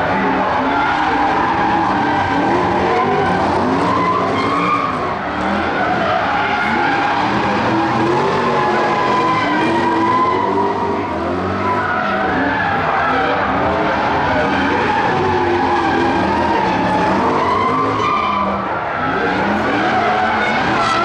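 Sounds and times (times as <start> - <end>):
car engines revving: 0.0 - 21.0
tyres squealing: 0.0 - 21.0.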